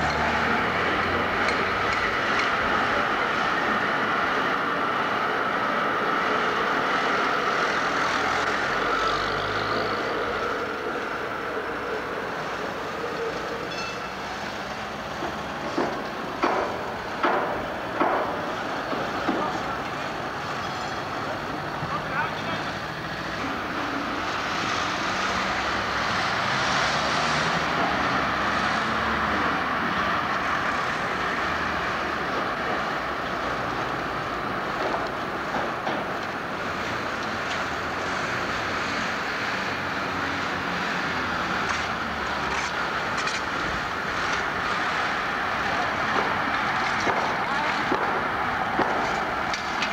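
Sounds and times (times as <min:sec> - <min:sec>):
cars passing: 0:00.0 - 0:49.9
tram rolling rumble and whir: 0:00.0 - 0:49.9.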